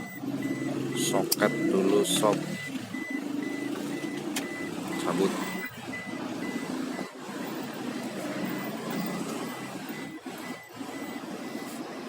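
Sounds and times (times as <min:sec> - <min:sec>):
high electronic beeps: 0:00.0 - 0:12.0.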